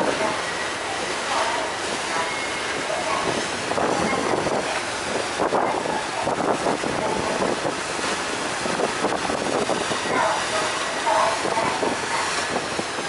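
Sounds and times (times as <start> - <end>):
churning wake: 0.0 - 13.0
ship engine drone: 0.0 - 13.0
wind buffeting microphone: 0.0 - 13.0.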